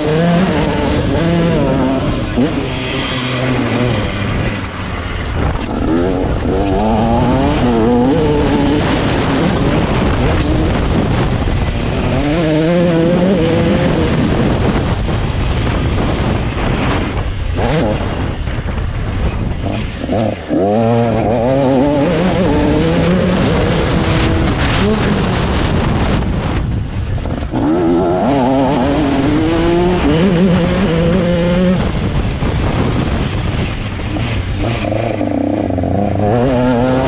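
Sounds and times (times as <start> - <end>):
two-stroke motorbike engine revving: 0.0 - 18.7, 19.5 - 26.6, 27.2 - 37.0
steady rush of noise: 0.0 - 37.0.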